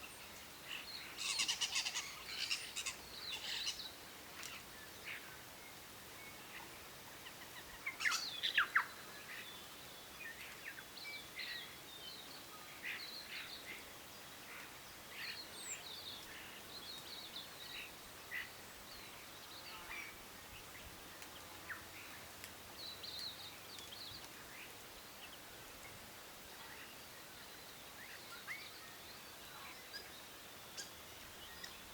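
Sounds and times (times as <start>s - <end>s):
steady background hiss: 0.0s - 31.9s.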